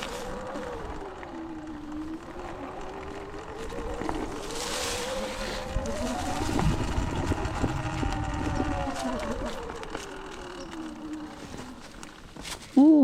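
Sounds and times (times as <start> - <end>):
low ground rumble: 0.0 - 12.7
electric motor whining: 0.0 - 12.8
wind: 0.0 - 13.0.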